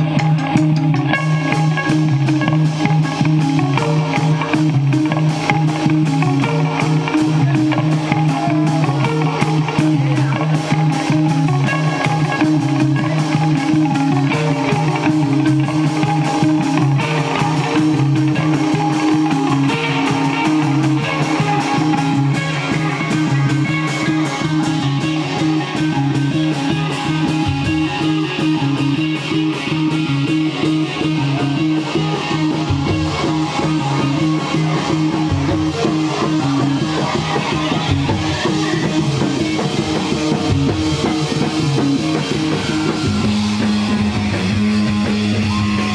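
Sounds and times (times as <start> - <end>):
rock band playing droning notes: 0.0 - 45.9.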